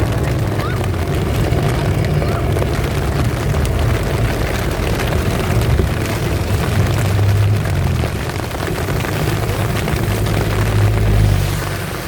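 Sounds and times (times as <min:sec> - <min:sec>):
heavy rain hiss: 0:00.0 - 0:12.0
vehicle rumbling on road: 0:00.0 - 0:12.0.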